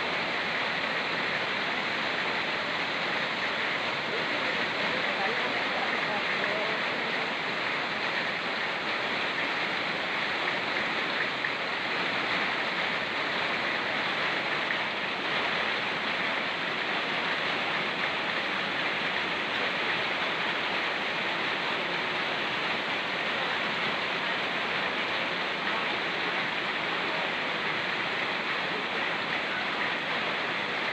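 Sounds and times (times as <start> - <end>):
rain falling: 0.0 - 30.9
river rushing: 0.0 - 30.9.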